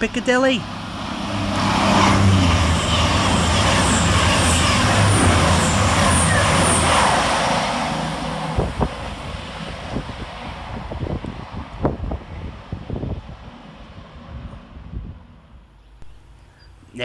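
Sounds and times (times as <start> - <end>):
diesel train engines humming: 0.0 - 17.0
wheels rushing on rail: 0.0 - 17.0.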